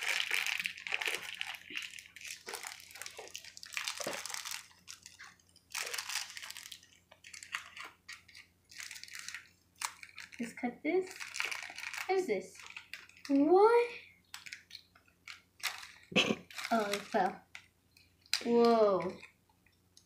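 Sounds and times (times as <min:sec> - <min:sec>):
plastic wrapper crinkling: 0:00.0 - 0:13.5, 0:14.2 - 0:20.0.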